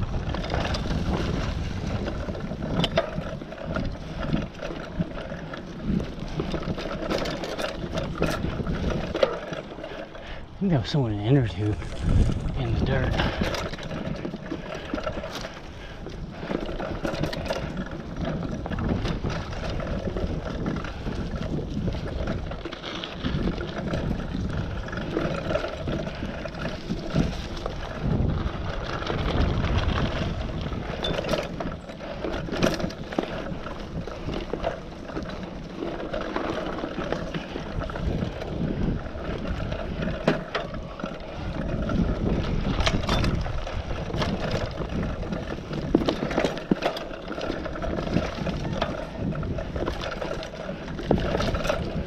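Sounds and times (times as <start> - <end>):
bike knocking and rattling: 0.0 - 52.0
bike tyres rolling on dirt: 0.0 - 52.0.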